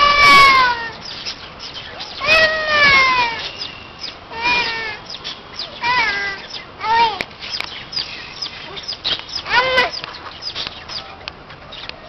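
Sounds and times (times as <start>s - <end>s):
civet calling: 0.0s - 11.9s.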